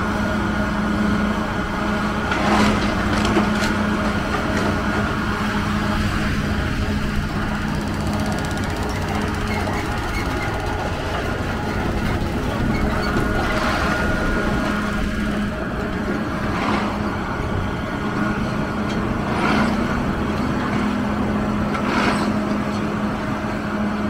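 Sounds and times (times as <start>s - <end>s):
diesel engine humming: 0.0s - 24.0s
street noise: 0.0s - 24.0s.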